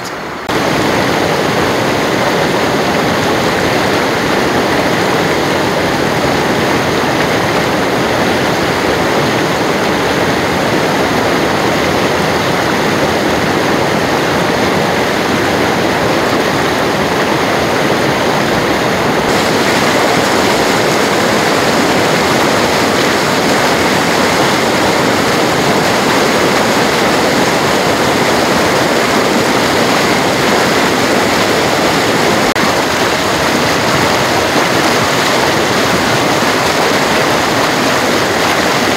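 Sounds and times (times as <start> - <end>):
water rushing through rapids: 0.0 - 38.9.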